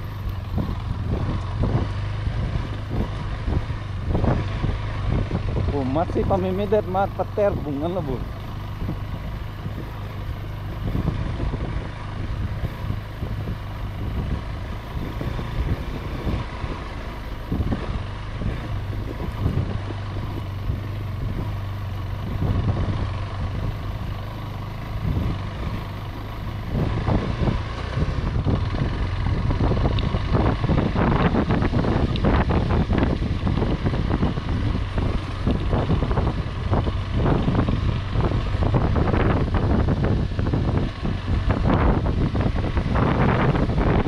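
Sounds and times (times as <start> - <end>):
knocks and rattles of bike: 0.0 - 44.0
motorcycle engine running: 0.0 - 44.0
wind on microphone: 0.0 - 44.0.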